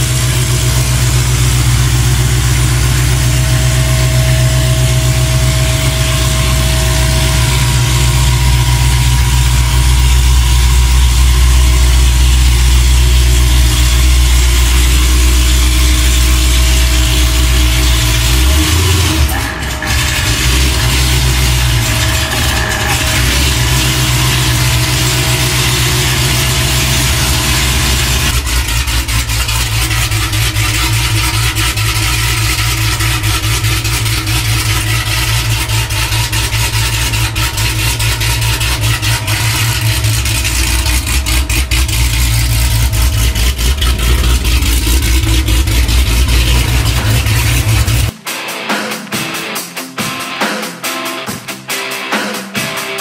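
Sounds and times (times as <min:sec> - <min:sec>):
car engine idling: 0:00.0 - 0:48.2.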